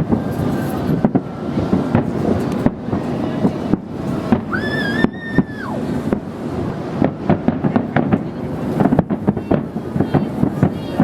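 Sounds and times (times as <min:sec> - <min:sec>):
background rumble: 0:00.0 - 0:11.0
fireworks booming and cracking: 0:00.0 - 0:11.0.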